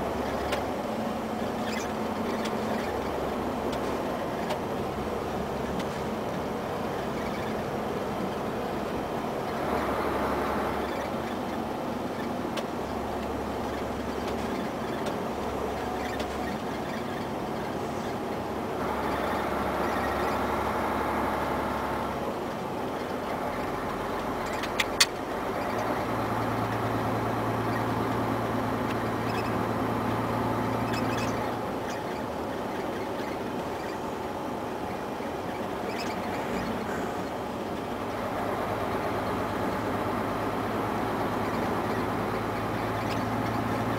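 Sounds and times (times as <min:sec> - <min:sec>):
diesel engine hum: 0:00.0 - 0:43.9
road and tyre noise: 0:00.0 - 0:43.9.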